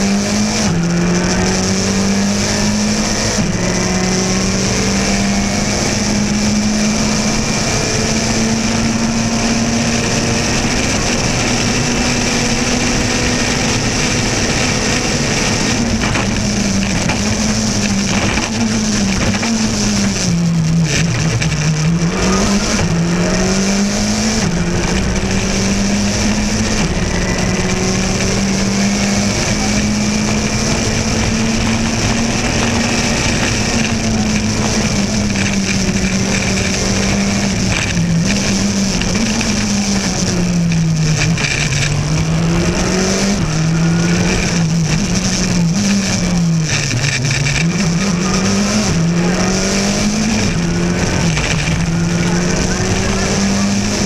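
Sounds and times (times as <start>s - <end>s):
car engine at high revs: 0.0s - 54.0s
road and wind noise: 0.0s - 54.0s.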